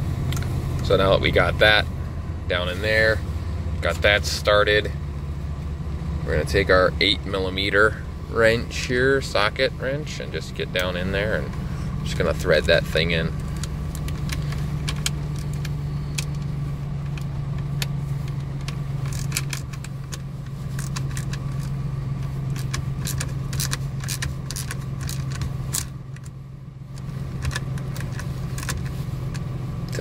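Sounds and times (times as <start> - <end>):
truck engine idling rough: 0.0 - 30.0.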